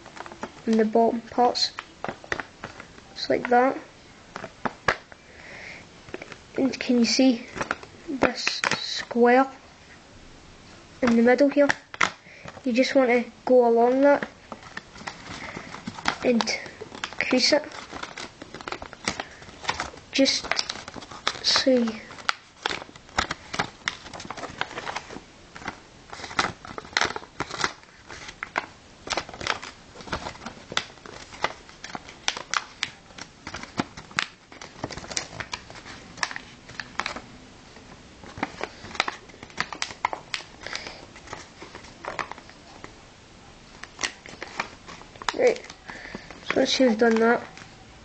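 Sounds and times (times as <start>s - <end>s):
paper crinkling and rustling: 0.0s - 3.6s, 6.1s - 9.2s, 11.0s - 43.0s, 43.7s - 47.9s.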